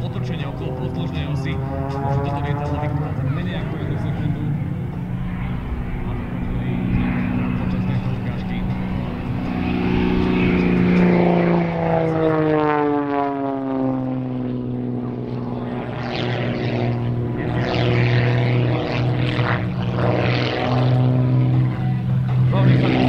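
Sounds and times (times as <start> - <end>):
propeller plane flying past: 0.0 - 23.0.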